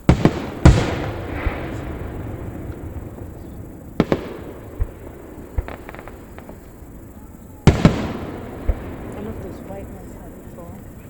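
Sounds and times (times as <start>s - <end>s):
fireworks rumble: 0.0s - 11.0s
sharp fireworks bangs: 0.0s - 11.0s
soft fireworks thumps: 0.0s - 11.0s.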